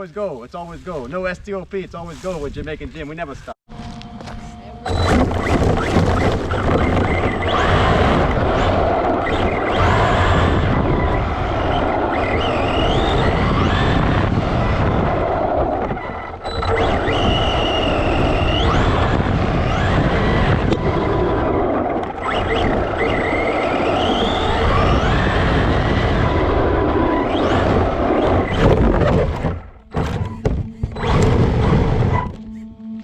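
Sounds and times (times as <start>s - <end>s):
electric motor whining: 3.7s - 33.0s.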